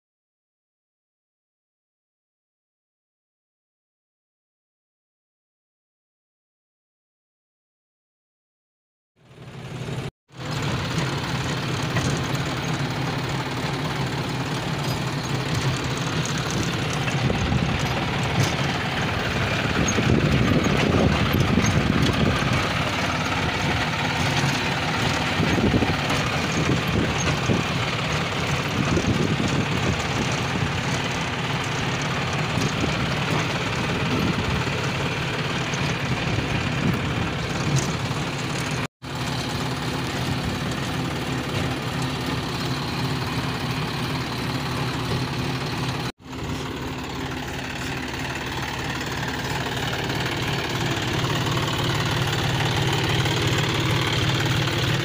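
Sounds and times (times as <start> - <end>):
tractor diesel engine running: 9.2 - 55.0.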